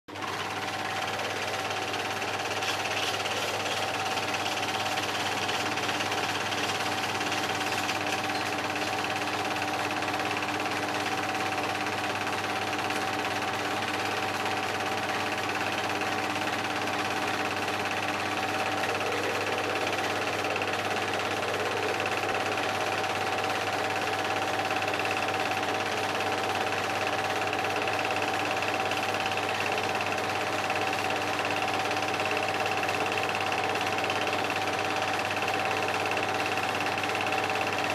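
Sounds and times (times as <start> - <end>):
film projector whirring and clattering: 0.1 - 37.9.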